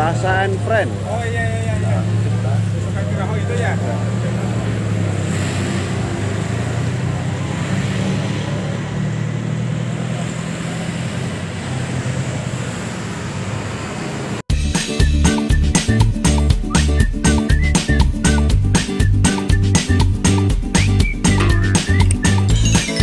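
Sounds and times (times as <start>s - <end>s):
truck engine running: 0.0s - 14.4s, 17.0s - 23.0s
street traffic: 0.0s - 23.0s.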